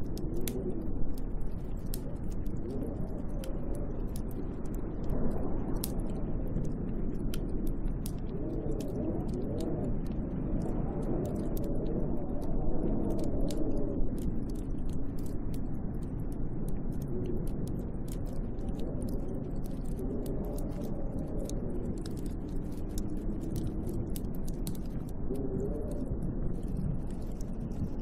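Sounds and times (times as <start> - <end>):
wind howling: 0.0 - 28.0.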